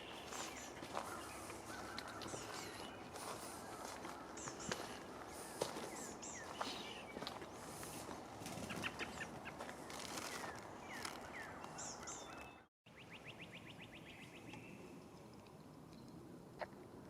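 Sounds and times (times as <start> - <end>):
birds chirping and whistling: 0.0 - 14.8.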